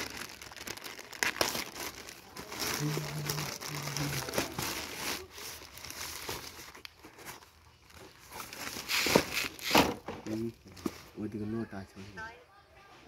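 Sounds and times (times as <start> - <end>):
plastic mailer bag crinkling: 0.0 - 11.2.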